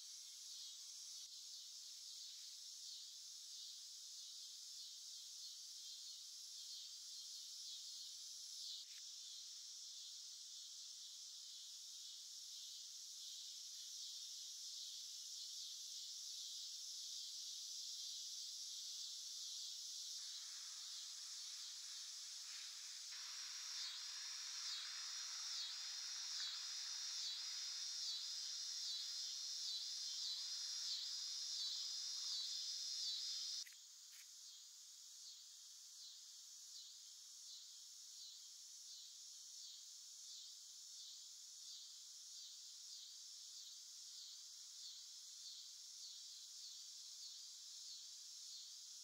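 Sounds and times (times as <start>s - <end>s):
insects trilling: 0.0s - 49.0s.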